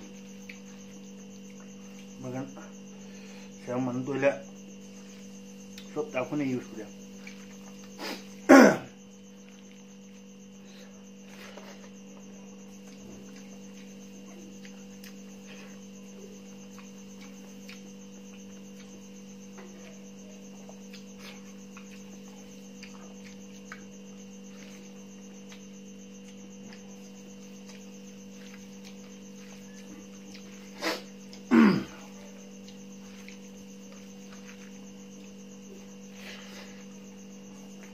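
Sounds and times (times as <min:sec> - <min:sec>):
electrical mains hum: 0:00.0 - 0:37.9.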